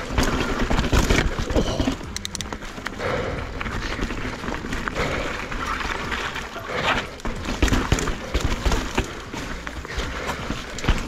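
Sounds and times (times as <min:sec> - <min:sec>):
bike knocking and rattling: 0:00.0 - 0:11.0
bike tyres crunching over rocks: 0:00.0 - 0:11.0.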